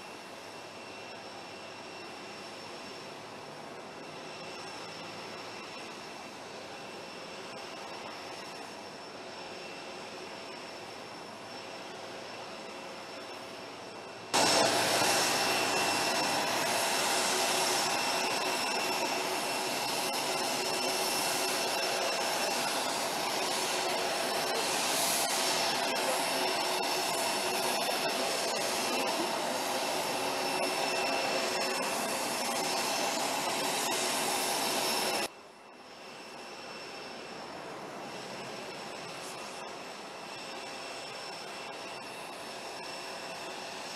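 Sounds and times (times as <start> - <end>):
jet engines whining: 0.0 - 43.9.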